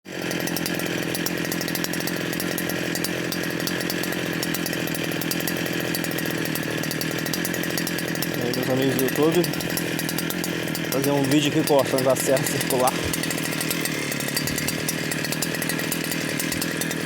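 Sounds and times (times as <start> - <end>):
power saw running: 0.1 - 17.0.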